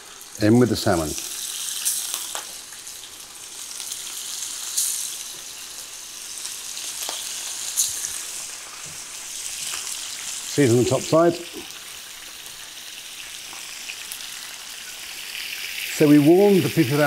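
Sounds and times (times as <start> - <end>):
fish sizzling in frying pan: 0.0 - 17.0.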